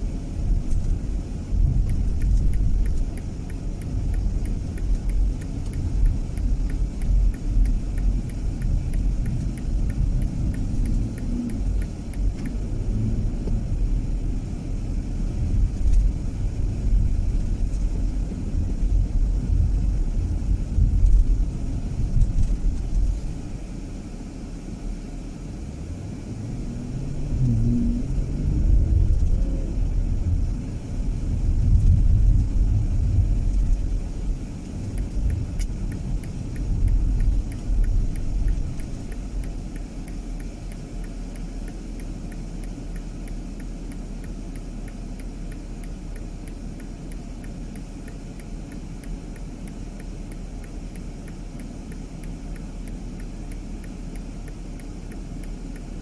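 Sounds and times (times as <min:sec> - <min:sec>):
car engine and road rumble: 0:00.0 - 0:56.0
turn signal ticking: 0:00.0 - 0:56.0.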